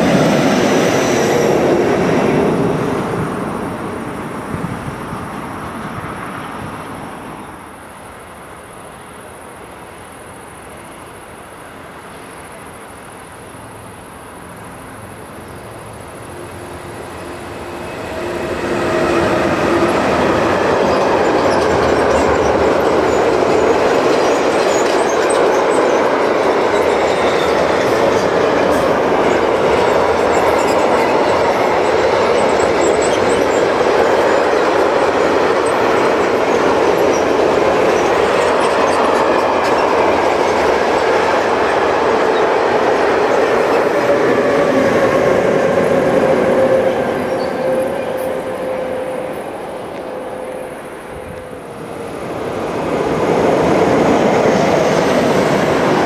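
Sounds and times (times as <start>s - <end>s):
freight train rolling roar: 0.0s - 56.0s.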